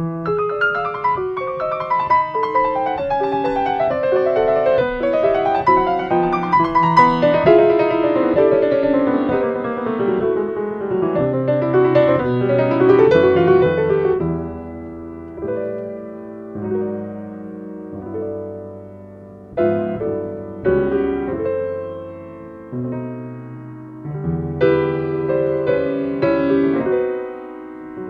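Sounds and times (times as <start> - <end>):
solo piano tango: 0.0 - 28.0.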